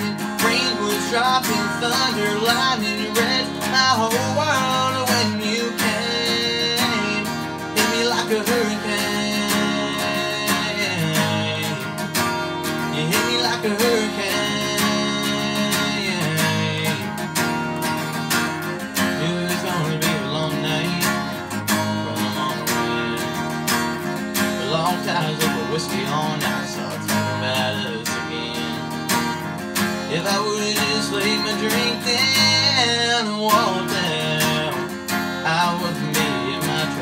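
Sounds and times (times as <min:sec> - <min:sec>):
acoustic guitar strumming: 0:00.0 - 0:37.0
man singing country song: 0:00.0 - 0:37.0.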